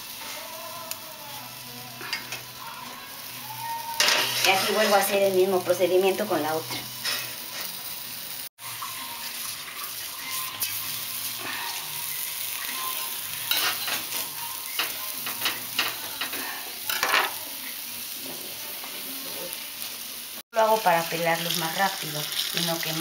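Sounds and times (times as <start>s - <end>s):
vegetables sizzling on a griddle: 0.0s - 23.0s.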